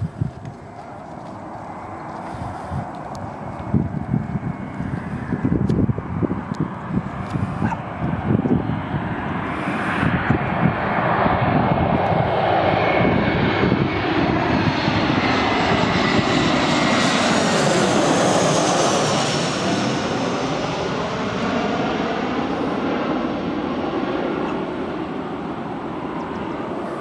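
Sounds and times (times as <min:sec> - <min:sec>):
jet airliner passing overhead: 0:00.0 - 0:27.0.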